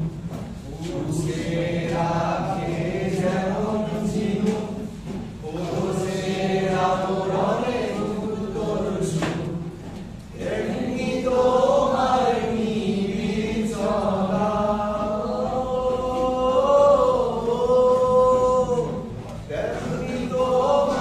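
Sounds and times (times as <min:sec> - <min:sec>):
voices singing slow song: 0:00.0 - 0:21.0.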